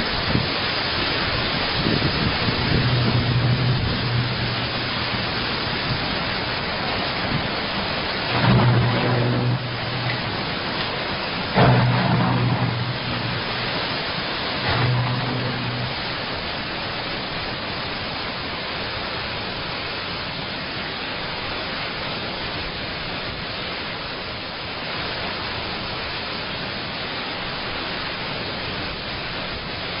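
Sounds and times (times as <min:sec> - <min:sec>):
steady static hiss: 0:00.0 - 0:30.0.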